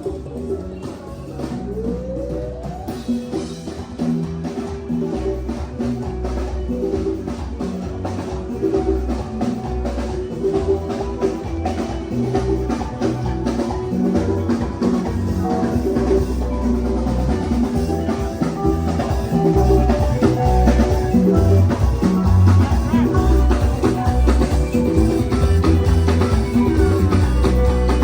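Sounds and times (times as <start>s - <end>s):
bass line: 0.0s - 28.0s
drum kit beat: 0.0s - 28.0s
live band playing upbeat groove: 0.0s - 28.0s.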